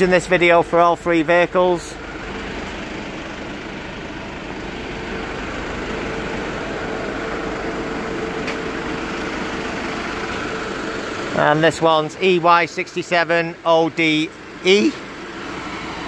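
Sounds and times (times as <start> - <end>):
diesel vans idling: 0.0 - 16.0.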